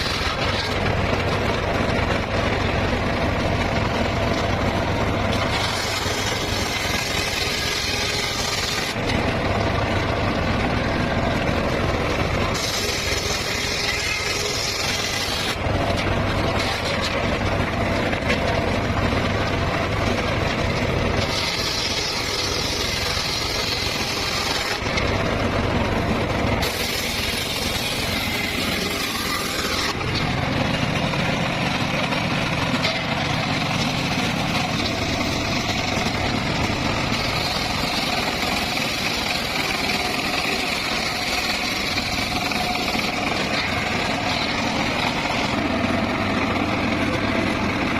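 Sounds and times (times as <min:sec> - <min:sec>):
circular saw cutting wood: 0:00.0 - 0:47.9.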